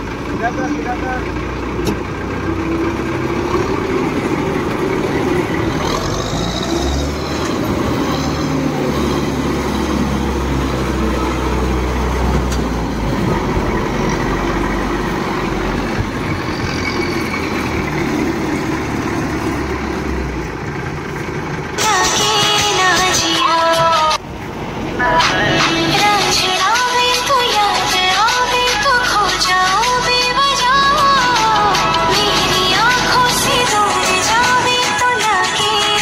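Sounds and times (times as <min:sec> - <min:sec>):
diesel engine low rumble: 0:00.0 - 0:36.0.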